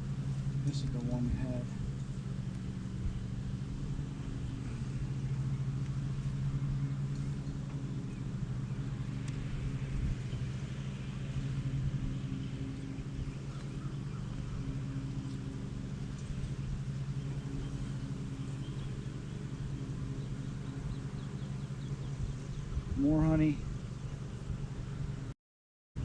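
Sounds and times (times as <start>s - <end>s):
honey bees buzzing: 0.0s - 22.9s.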